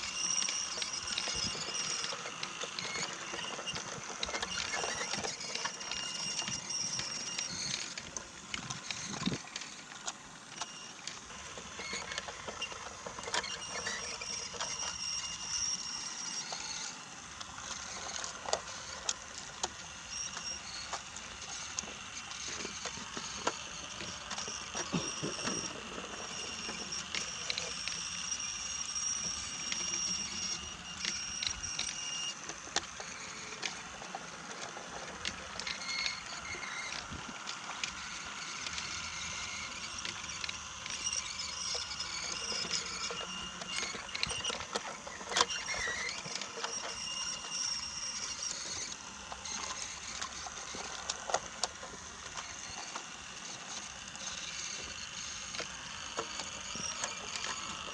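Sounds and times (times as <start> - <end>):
toy train whine: 0.0 - 57.9.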